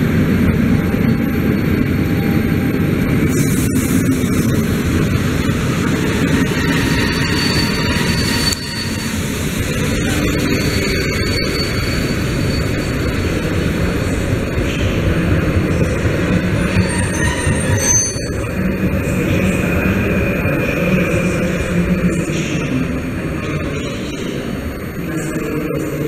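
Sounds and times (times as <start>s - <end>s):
electric train rumbling on rails: 0.0s - 26.0s.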